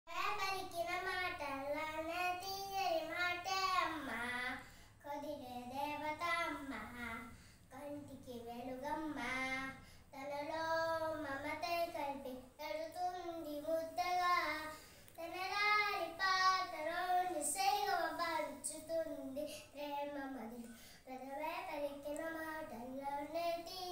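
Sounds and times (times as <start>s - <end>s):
boy singing unaccompanied: 0.1s - 23.9s.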